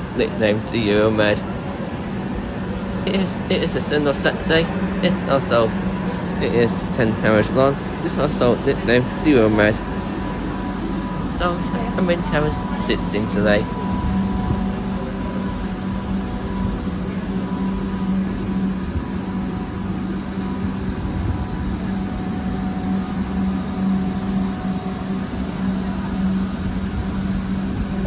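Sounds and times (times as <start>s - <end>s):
stationary train humming: 0.0s - 28.0s.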